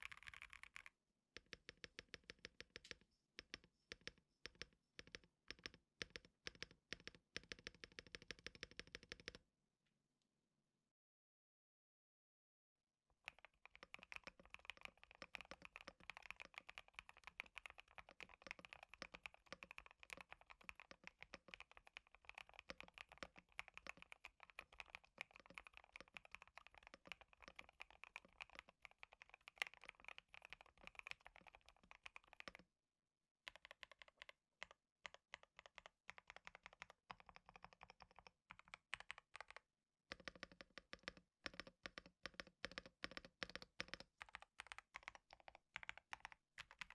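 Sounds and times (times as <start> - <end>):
typing on mechanical keyboard: 0.0 - 9.4, 13.2 - 32.6, 33.5 - 46.9.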